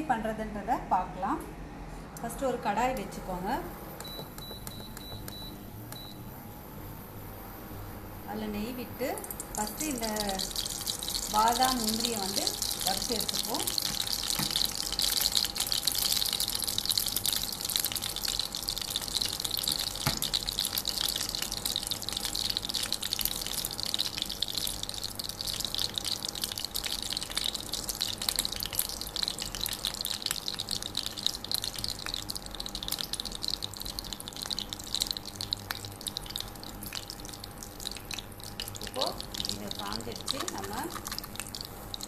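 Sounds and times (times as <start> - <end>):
ghee sizzling and crackling: 8.2 - 42.0.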